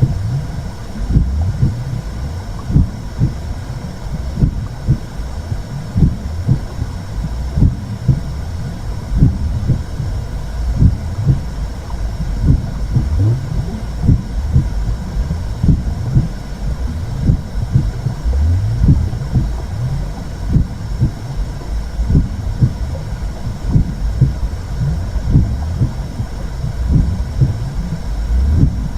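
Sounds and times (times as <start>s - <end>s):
deep whooshing rumble: 0.0s - 28.9s
slow heartbeat: 0.0s - 28.9s.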